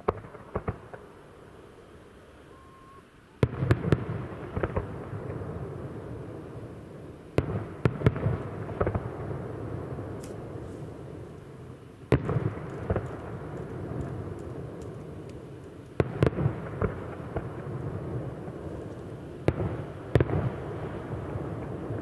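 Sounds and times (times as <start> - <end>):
distant fireworks bangs: 0.0 - 1.3, 2.8 - 6.7, 7.3 - 22.0.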